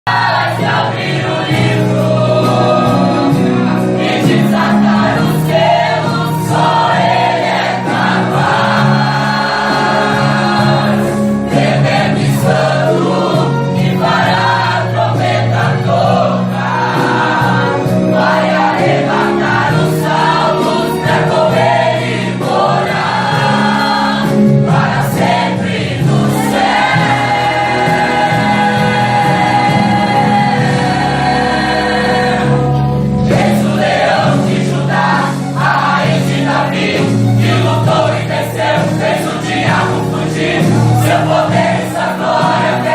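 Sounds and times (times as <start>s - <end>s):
musical backing: 0.0s - 42.9s
choir singing a hymn: 0.1s - 42.9s.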